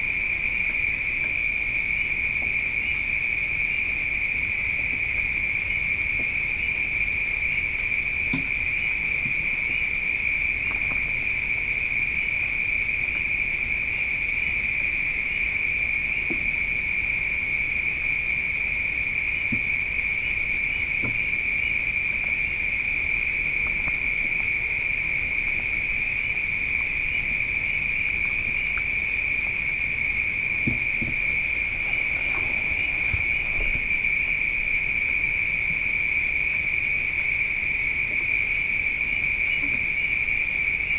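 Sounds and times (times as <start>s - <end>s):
night insects trilling: 0.0s - 40.9s.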